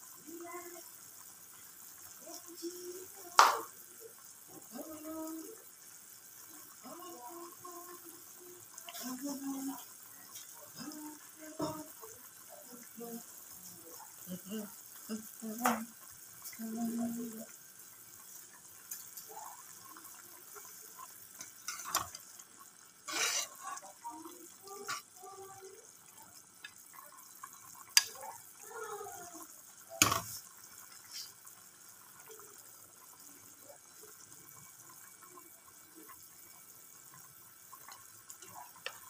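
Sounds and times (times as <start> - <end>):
soup simmering hiss: 0.0 - 39.0.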